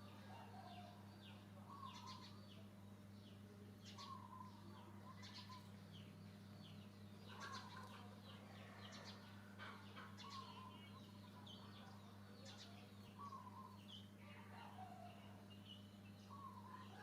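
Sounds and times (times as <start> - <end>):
bird chirping: 0.0 - 17.0
lower wavering bird calls: 0.0 - 17.0
steady low hum: 0.0 - 17.0.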